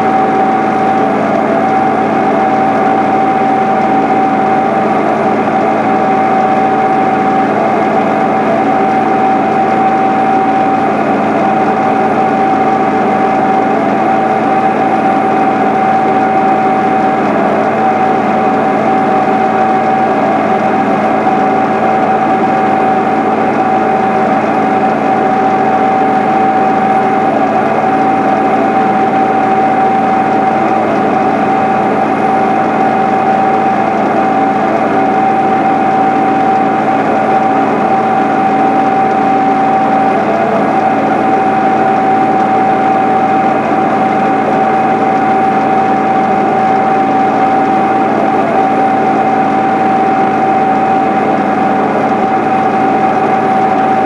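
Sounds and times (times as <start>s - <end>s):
steady whine: 0.0s - 54.0s.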